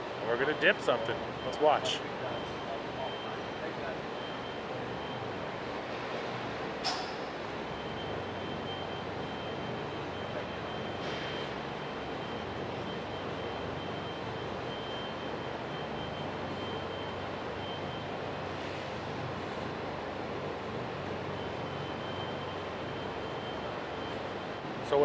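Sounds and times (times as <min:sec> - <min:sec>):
machinery and ventilation hum: 0:00.0 - 0:25.0.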